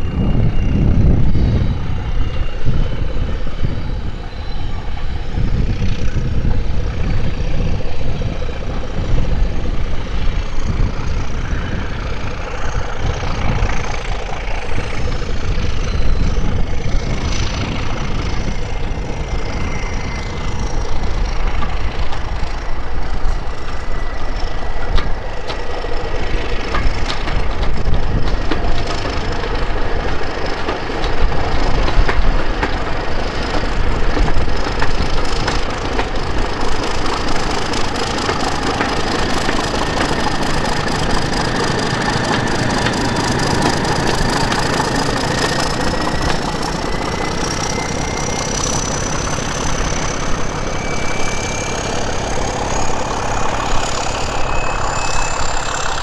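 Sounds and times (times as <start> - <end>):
diesel locomotive engine rumble: 0.0 - 56.0
rising whine: 0.0 - 56.0
wheels clicking over rail joints: 8.9 - 56.0.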